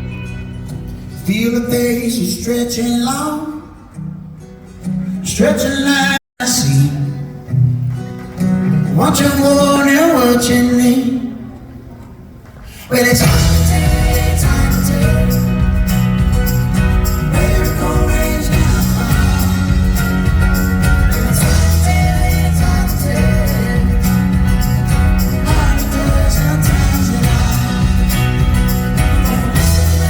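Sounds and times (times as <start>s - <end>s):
live folk-pop band music: 0.0s - 30.0s.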